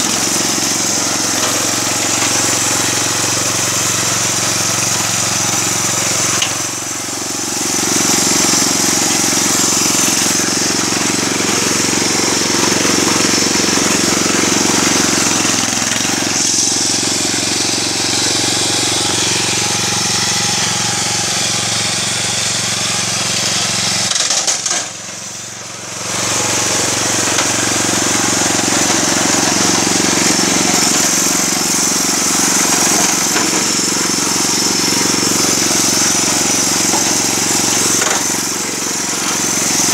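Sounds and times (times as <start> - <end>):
lawn mower engine mowing: 0.0 - 39.9.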